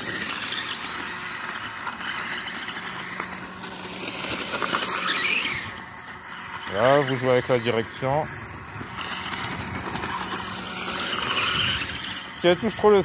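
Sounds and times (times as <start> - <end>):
toy bike electric motor: 0.0 - 13.0
tyres scraping over gravel: 0.0 - 13.0.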